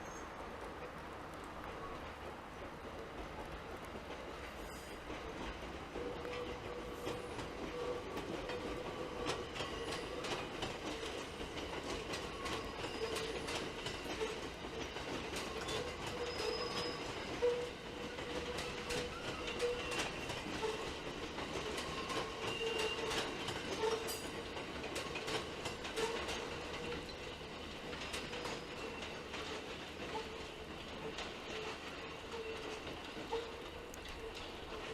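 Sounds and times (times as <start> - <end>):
train running noise: 0.0 - 34.9
train wheels clicking over rail joints: 0.7 - 34.9.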